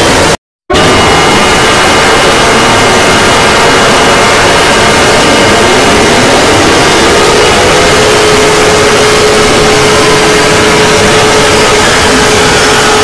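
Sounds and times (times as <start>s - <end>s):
distorted siren: 0.0s - 13.0s
static hiss: 0.0s - 13.0s.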